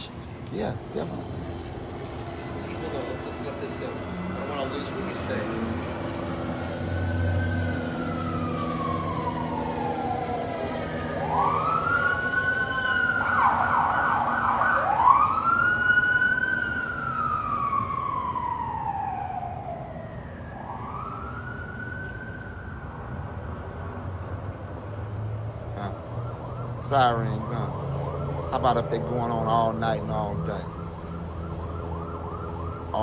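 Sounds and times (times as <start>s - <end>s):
police siren wailing: 0.0s - 33.0s.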